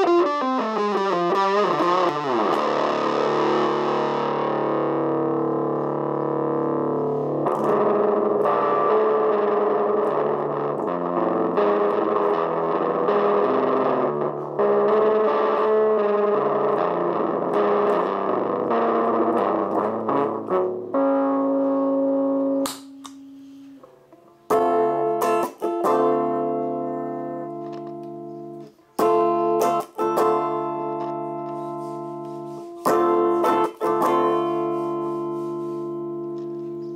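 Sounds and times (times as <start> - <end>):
distorted electric guitar: 0.0 - 36.9.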